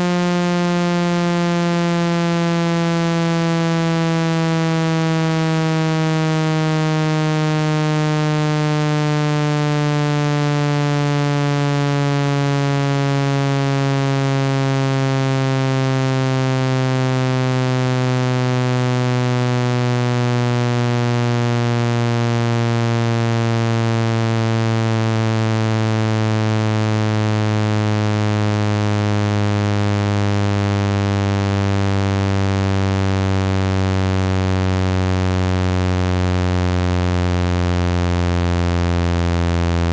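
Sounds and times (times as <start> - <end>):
electronic buzz sliding down in pitch: 0.0 - 39.9.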